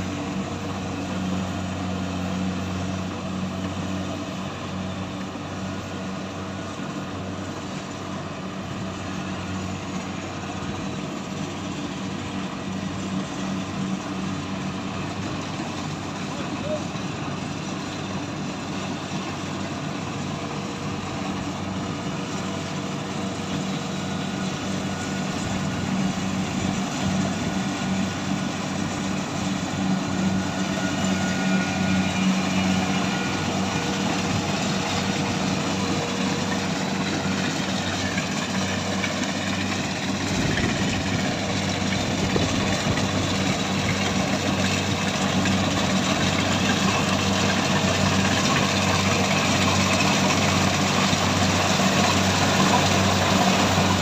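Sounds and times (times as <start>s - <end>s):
harvesting machine engine running: 0.0s - 54.0s.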